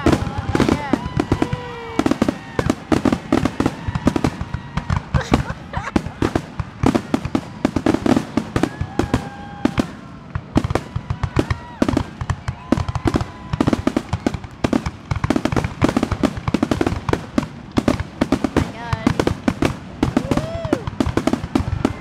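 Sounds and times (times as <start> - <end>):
firework shells bursting: 0.0 - 22.0.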